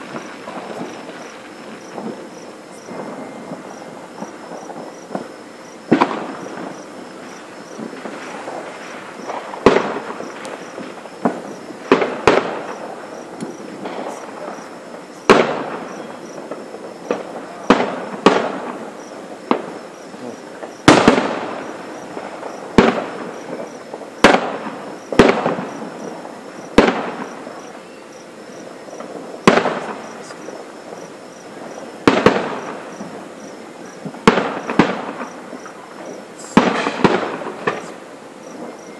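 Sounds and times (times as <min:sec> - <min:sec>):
fireworks booming: 0:00.0 - 0:38.9.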